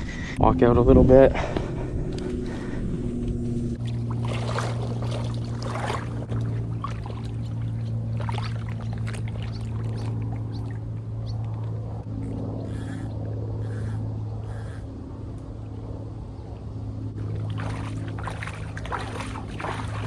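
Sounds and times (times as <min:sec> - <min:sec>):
steady low drone: 0:00.0 - 0:20.0
water splashing and sloshing: 0:03.8 - 0:20.0.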